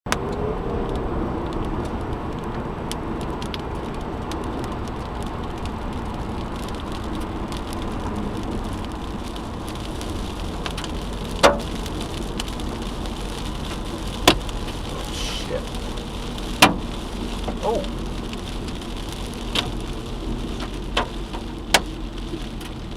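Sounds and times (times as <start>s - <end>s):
car road noise: 0.1s - 22.9s
rain and hail ticking on car: 0.1s - 22.9s.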